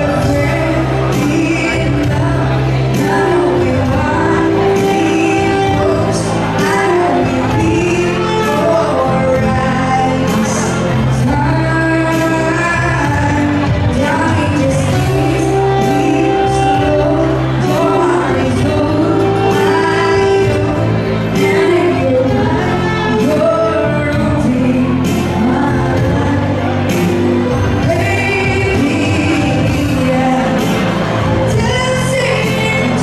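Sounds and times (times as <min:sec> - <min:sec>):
bass notes: 0:00.0 - 0:33.0
live band playing pop song: 0:00.0 - 0:33.0
person singing: 0:00.0 - 0:33.0.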